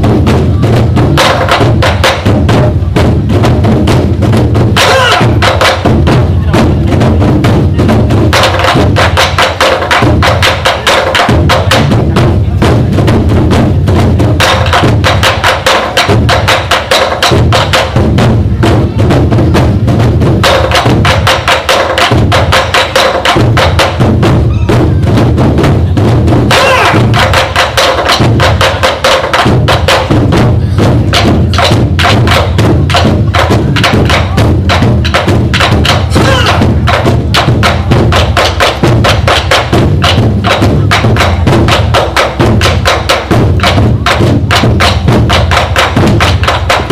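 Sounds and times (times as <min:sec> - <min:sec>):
deep booming drum: 0:00.0 - 0:46.9
drum ensemble playing: 0:00.0 - 0:46.9.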